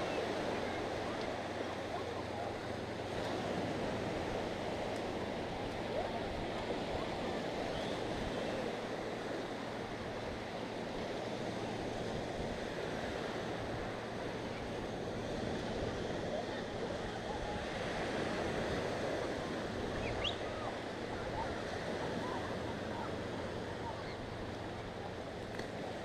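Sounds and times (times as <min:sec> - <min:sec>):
small waves washing onto beach: 0:00.0 - 0:26.0.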